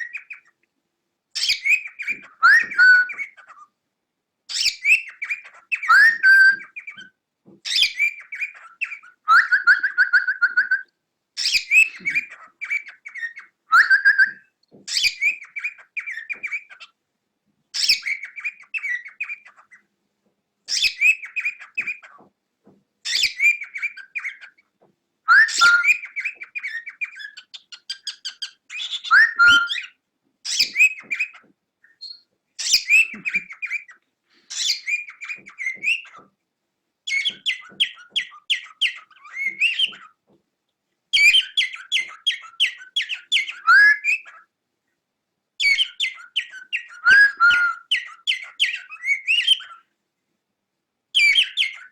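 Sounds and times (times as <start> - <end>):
cockatiel whistling: 0.0 - 0.5, 1.4 - 3.6, 4.5 - 7.1, 7.7 - 16.9, 17.8 - 19.8, 20.7 - 22.2, 23.1 - 24.6, 25.3 - 36.2, 37.1 - 40.1, 41.2 - 44.4, 45.6 - 49.8, 51.2 - 51.9.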